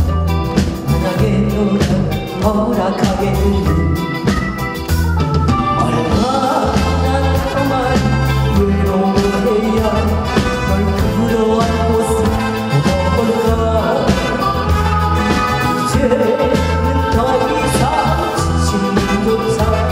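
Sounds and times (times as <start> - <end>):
bass line: 0.0 - 19.9
drum beat: 0.0 - 19.9
guitar: 0.0 - 19.9
woman singing into microphone: 0.9 - 19.9.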